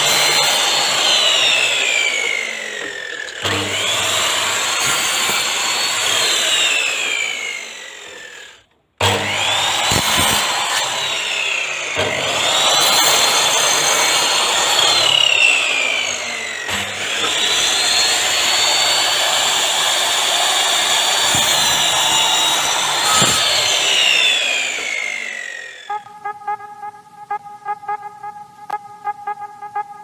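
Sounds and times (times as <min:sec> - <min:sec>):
electric mitre saw cutting wood: 0:00.0 - 0:26.0.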